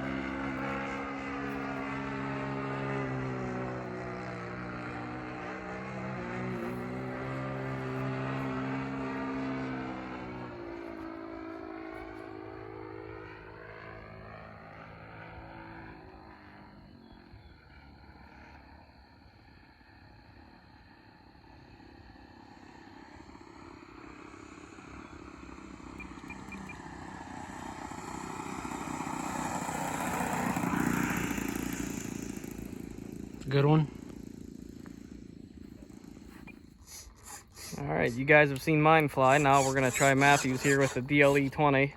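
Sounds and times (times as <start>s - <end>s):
model airplane engine: 0.0s - 41.9s.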